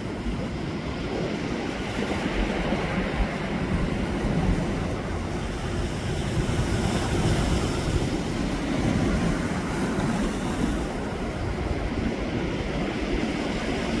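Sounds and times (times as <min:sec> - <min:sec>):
sea surf: 0:00.0 - 0:14.0
wind on microphone: 0:00.0 - 0:14.0.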